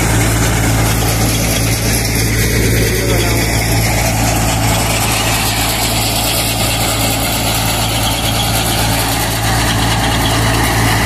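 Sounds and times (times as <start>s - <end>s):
threshing machine engine drone: 0.0s - 11.0s.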